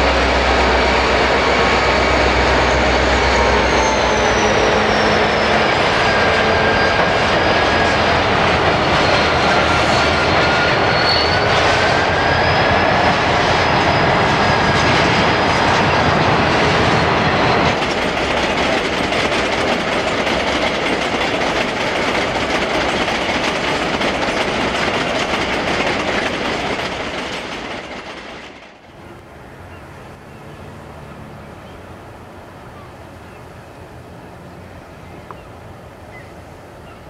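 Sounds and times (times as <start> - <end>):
diesel freight train passing: 0.0 - 37.0.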